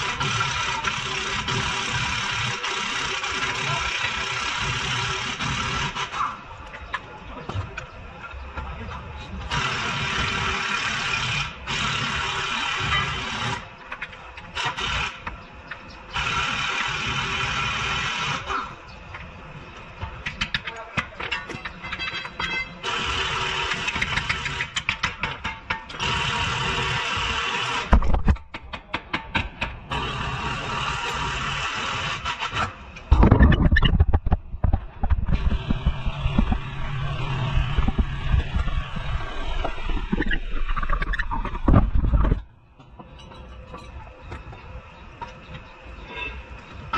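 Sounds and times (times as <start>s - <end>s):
steady workshop hum: 0.0s - 46.9s.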